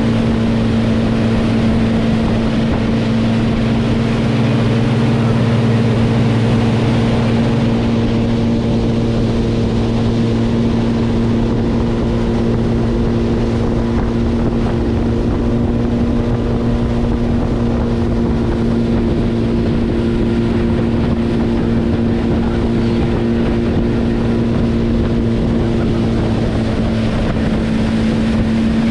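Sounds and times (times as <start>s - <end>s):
boat engine droning: 0.0s - 28.9s
water rushing: 0.0s - 28.9s
wind over microphone: 0.0s - 28.9s.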